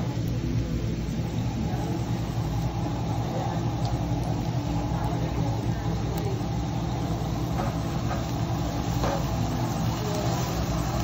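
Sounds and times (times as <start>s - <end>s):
food sizzling on griddle: 0.0s - 11.0s
low mechanical hum: 0.0s - 11.0s.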